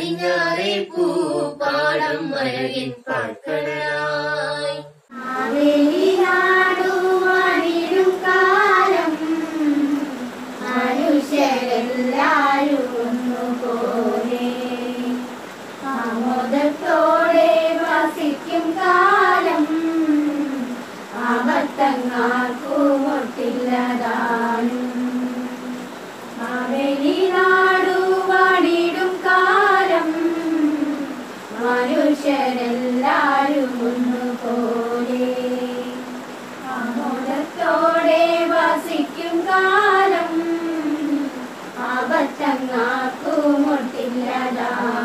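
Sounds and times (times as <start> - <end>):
women and girls singing: 0.0 - 45.0.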